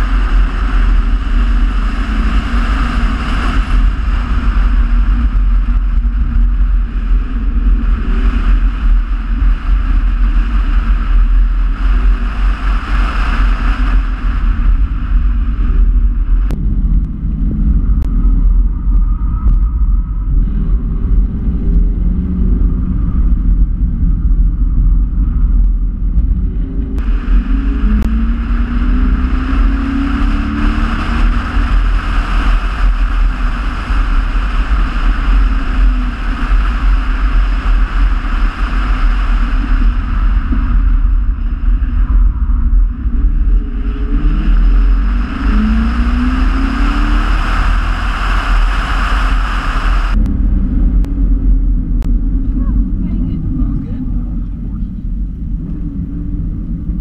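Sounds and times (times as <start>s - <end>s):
car engine accelerating: 0.0s - 57.0s
steady rushing noise: 0.0s - 57.0s.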